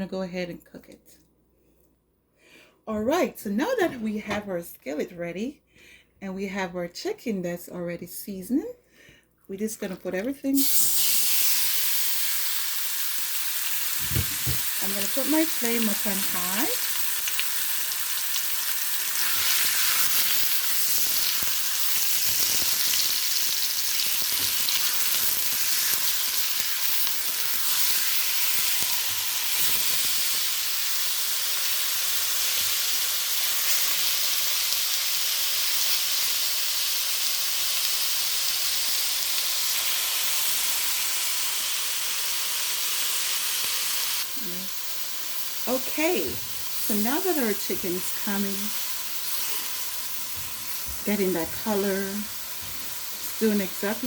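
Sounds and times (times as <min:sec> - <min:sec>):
chicken sizzling in a skillet: 0:10.6 - 0:54.0.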